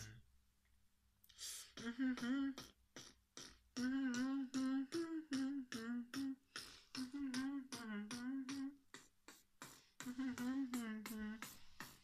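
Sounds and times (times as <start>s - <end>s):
man beatboxing hummed melody: 0.0s - 0.2s, 1.3s - 12.0s.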